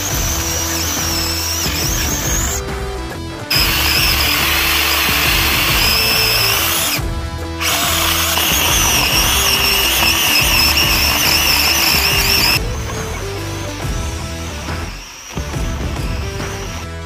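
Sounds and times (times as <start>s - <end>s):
electric chainsaw cutting wood: 0.0s - 17.0s.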